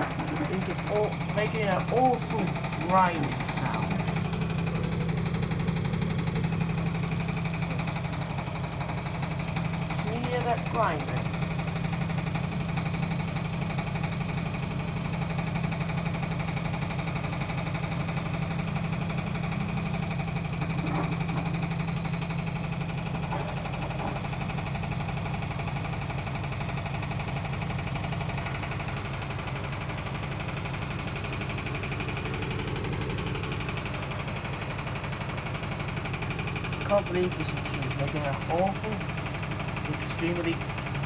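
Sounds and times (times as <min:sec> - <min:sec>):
washing machine pulsing grinding: 0:00.0 - 0:41.0.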